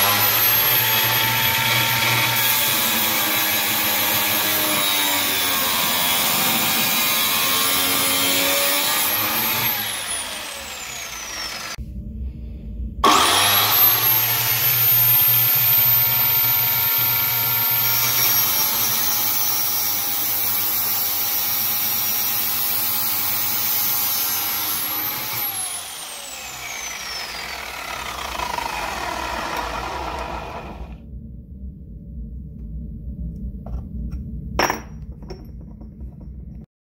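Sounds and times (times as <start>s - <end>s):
cut-off saw whining and grinding: 0.0s - 11.8s, 13.0s - 31.0s.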